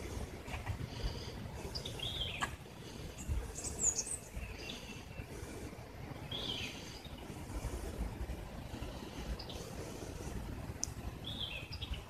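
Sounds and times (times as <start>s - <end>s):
songbirds chirping: 0.0s - 12.0s
steady low rumble: 0.0s - 12.0s.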